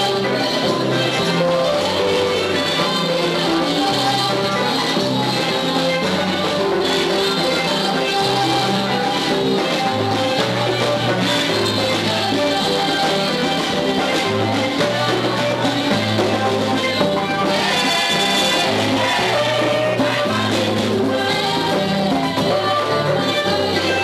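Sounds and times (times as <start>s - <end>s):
band with keyboards: 0.0s - 24.0s
women singing into microphones: 0.0s - 24.0s.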